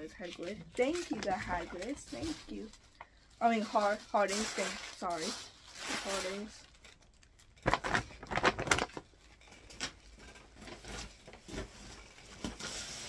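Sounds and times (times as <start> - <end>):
tissue paper crinkling: 0.0 - 13.0.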